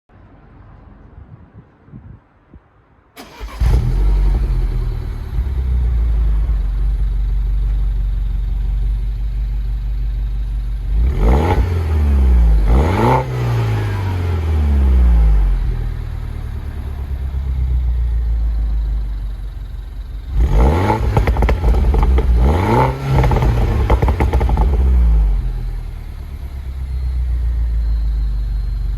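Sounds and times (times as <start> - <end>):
car engine starting idling and revving: 3.2 - 28.9.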